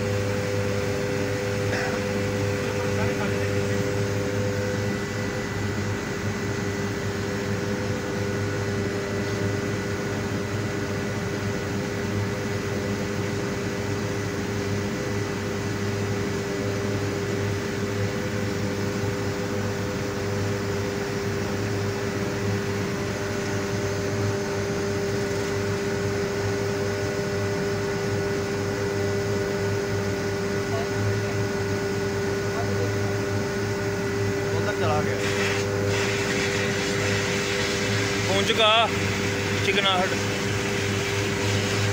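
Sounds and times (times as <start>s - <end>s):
suction machine engine and vacuum pump: 0.0s - 41.9s.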